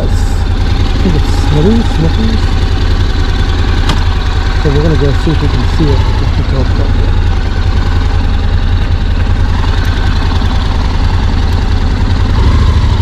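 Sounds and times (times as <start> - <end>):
road noise: 0.0 - 13.0
vehicle engine rumbling: 0.0 - 13.0.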